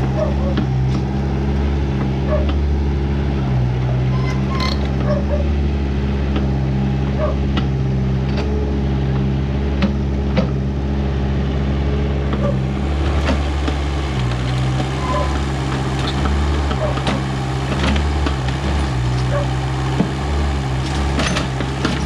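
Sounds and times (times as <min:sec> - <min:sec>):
backhoe diesel engine running: 0:00.0 - 0:22.0.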